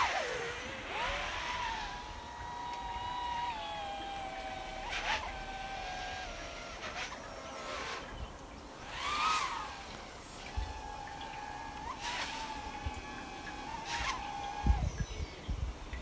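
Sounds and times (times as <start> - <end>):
quadcopter motors whining: 0.0 - 16.0
quadcopter throttle blips: 0.0 - 16.0.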